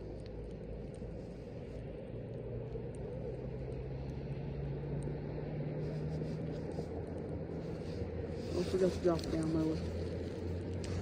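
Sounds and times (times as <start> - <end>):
engine droning hum: 0.0 - 11.0.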